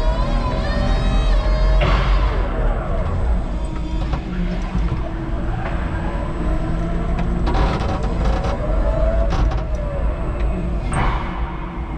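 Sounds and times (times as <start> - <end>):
rattles and clatters: 1.7 - 11.9.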